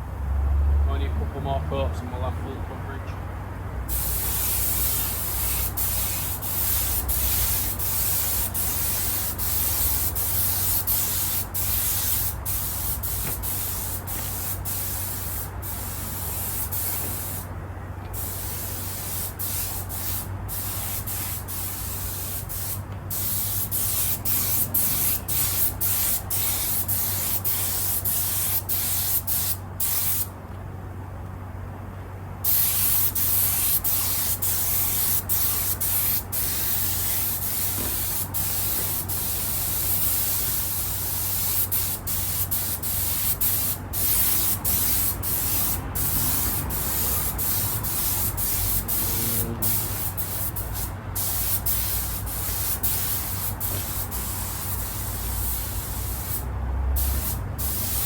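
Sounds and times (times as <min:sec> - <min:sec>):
steady low hum: 0:01.0 - 0:58.0
spray gun hissing: 0:03.9 - 0:17.5, 0:18.2 - 0:30.3, 0:32.5 - 0:56.4, 0:57.0 - 0:58.0.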